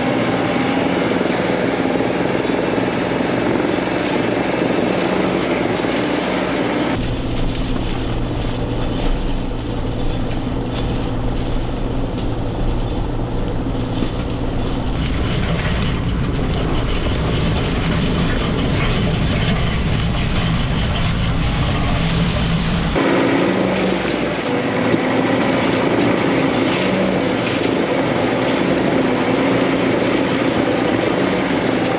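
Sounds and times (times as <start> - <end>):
chain harrow rattling and clanking: 0.0 - 31.9
diesel engine running: 0.0 - 31.9.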